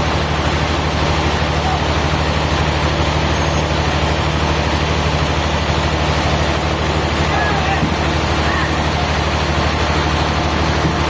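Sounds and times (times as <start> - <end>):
heavy engine running: 0.0 - 11.0.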